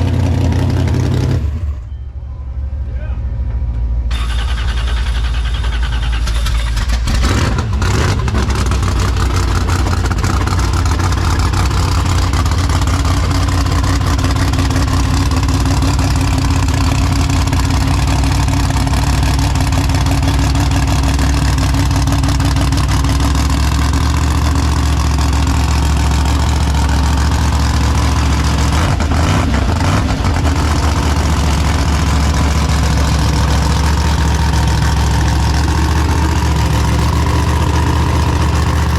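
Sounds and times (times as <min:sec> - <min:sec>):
car engine exhaust rumble: 0:00.0 - 0:02.2, 0:06.6 - 0:38.9.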